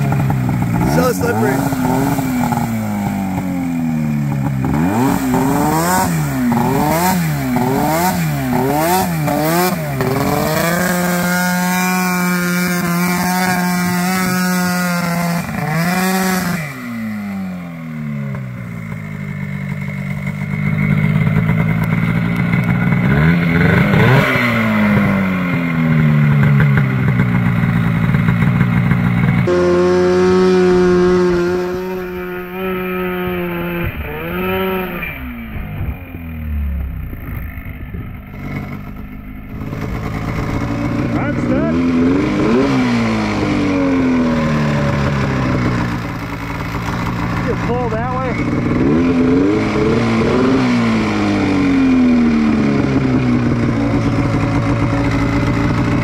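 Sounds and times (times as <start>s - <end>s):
buggy engine revving: 0.0s - 56.0s.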